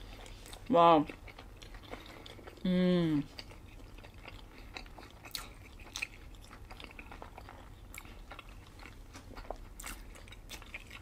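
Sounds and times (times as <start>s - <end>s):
wet chewing mouth sounds: 0.0s - 11.0s.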